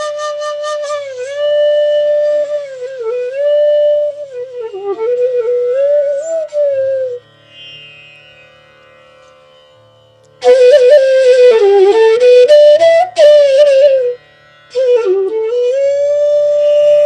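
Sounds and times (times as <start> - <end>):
bamboo flute melody: 0.0 - 7.6, 10.4 - 17.0.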